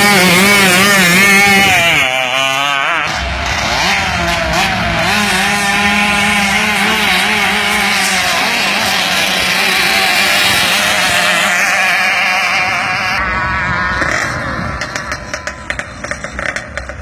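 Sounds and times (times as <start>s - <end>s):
racing boat engine buzzing: 0.0s - 17.0s.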